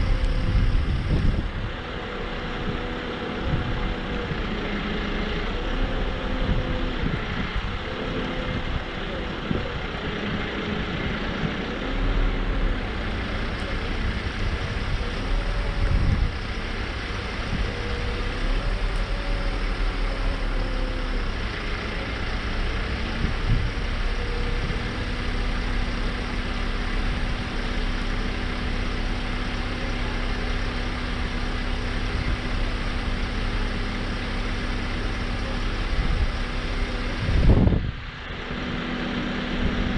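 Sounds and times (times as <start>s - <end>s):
diesel engine running hydraulics: 0.0s - 39.9s.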